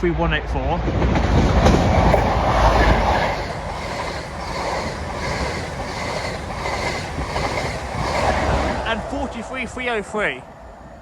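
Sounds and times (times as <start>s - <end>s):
diesel train passing at speed: 0.0s - 11.0s
wheels beating on rails: 0.7s - 11.0s.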